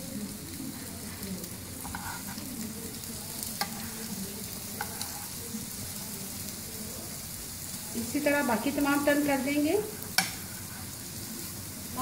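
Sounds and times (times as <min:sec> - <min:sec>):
food sizzling in oil on griddle: 0:00.0 - 0:12.0.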